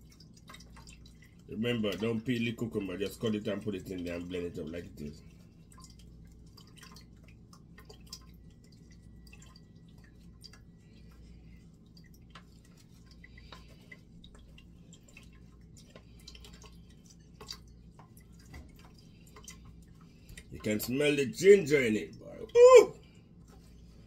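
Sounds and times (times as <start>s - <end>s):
juice dripping into pot: 0.0s - 24.0s.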